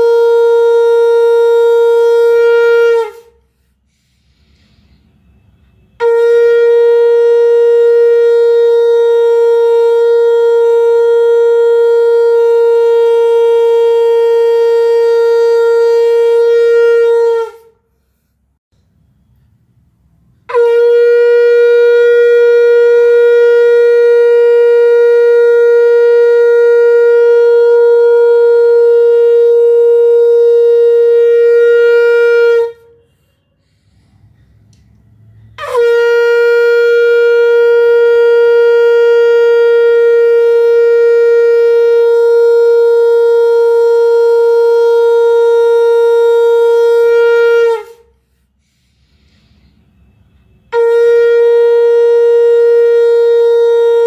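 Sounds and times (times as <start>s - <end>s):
conch shell blasts: 0.0s - 3.6s, 5.0s - 17.8s, 20.4s - 48.2s, 49.0s - 54.0s.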